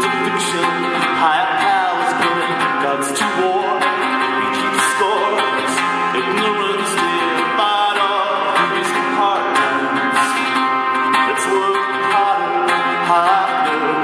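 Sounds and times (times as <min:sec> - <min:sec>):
acoustic string instrument strummed: 0:00.0 - 0:14.0
man singing: 0:00.0 - 0:14.0.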